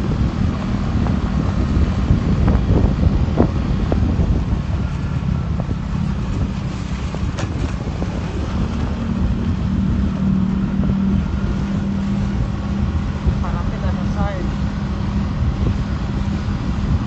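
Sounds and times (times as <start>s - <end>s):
vehicle engine hum: 0.0s - 17.0s
wind buffeting microphone: 0.0s - 17.0s.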